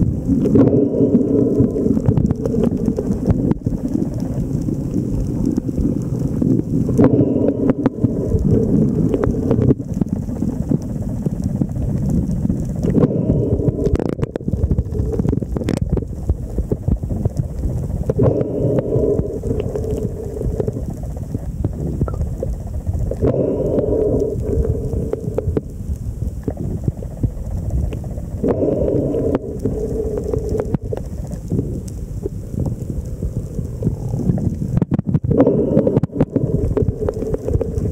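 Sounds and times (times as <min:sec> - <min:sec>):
low hum: 0:00.0 - 0:37.9
underwater water rumble: 0:00.0 - 0:37.9
faint clicks: 0:00.2 - 0:37.9.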